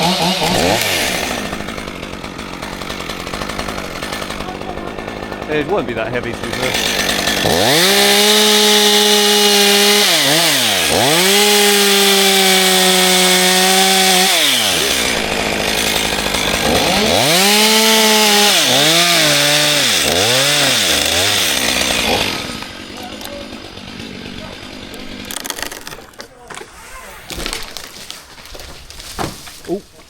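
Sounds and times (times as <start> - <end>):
chainsaw revving: 0.0 - 28.7.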